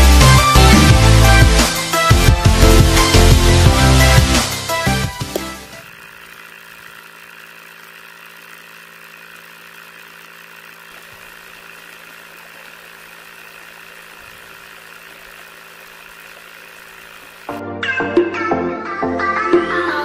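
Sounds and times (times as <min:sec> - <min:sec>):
water pump motor humming: 0:00.0 - 0:17.6.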